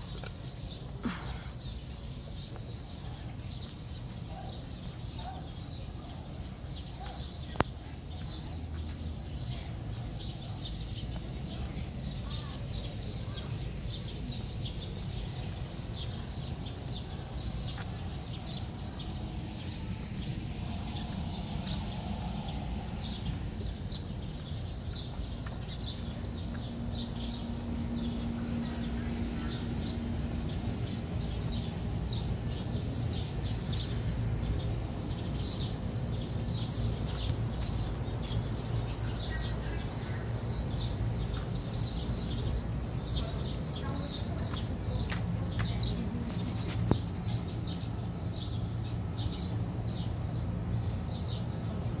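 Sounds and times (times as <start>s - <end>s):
low outdoor rumble: 0.0s - 52.0s
small birds chirping: 0.0s - 52.0s.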